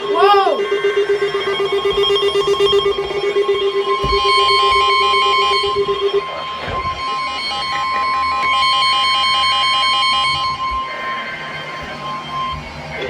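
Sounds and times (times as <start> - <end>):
steady warning alarm tone: 0.0 - 13.0
rhythmic electronic beeping: 0.4 - 13.0.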